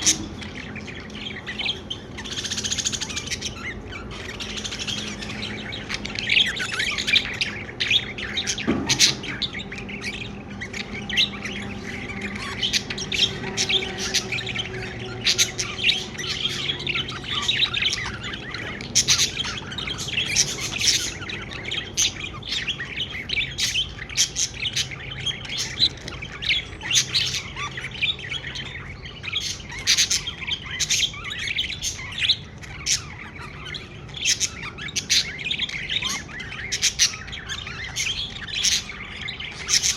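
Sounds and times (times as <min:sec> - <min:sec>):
budgerigars chirping: 0:00.0 - 0:39.9
squawk-like bird calls: 0:00.0 - 0:39.9.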